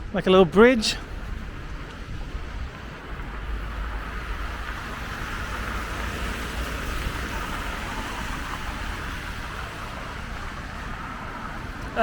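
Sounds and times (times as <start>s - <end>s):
low traffic rumble: 0.0s - 12.0s
tyres hissing on wet road: 0.8s - 12.0s.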